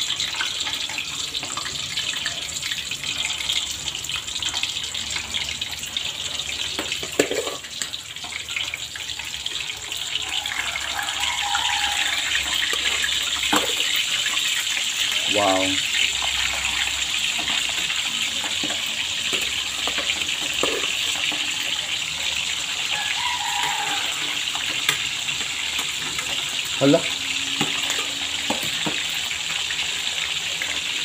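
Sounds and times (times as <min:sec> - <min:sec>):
meat sizzling in oil: 0:00.0 - 0:31.0.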